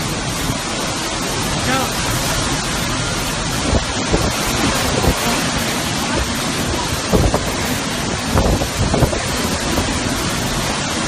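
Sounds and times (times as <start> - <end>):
storm wind and rain: 0.0 - 11.0
wind gusts buffeting microphone: 0.0 - 11.0.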